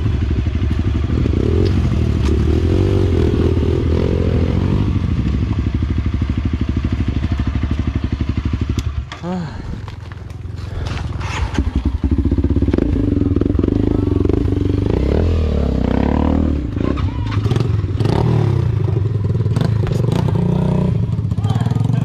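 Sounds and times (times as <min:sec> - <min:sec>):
dirt bike engine revving: 0:00.0 - 0:09.6, 0:10.4 - 0:22.0.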